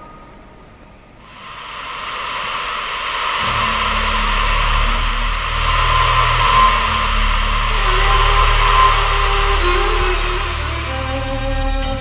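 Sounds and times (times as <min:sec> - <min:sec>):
low electronic hum: 0:00.6 - 0:12.0
static hiss: 0:01.2 - 0:12.0.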